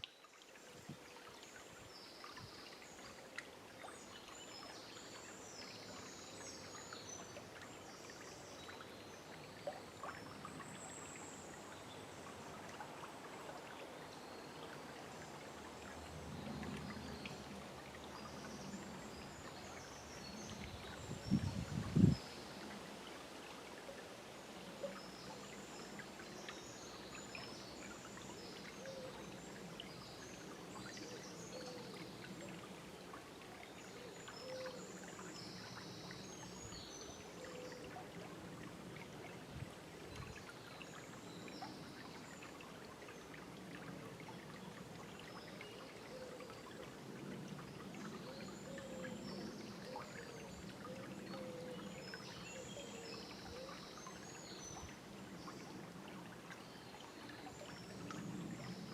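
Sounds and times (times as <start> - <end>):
river water babbling: 0.0 - 58.9.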